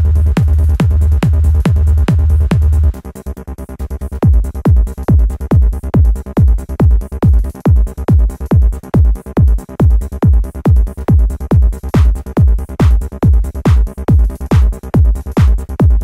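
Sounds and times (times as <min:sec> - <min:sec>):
deep bass: 0:00.0 - 0:16.0
pitch-dropping kick drum: 0:00.0 - 0:16.0.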